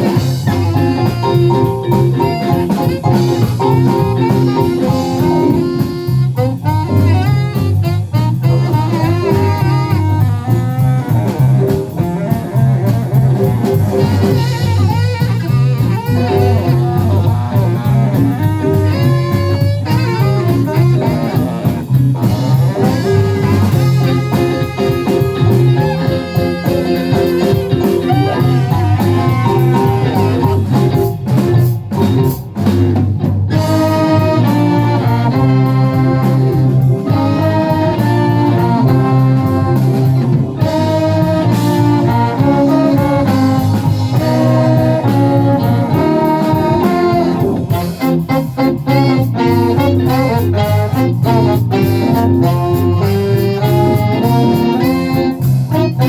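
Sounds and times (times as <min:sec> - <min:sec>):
live band playing pop song: 0:00.0 - 0:56.0
repeating bass line: 0:00.0 - 0:56.0.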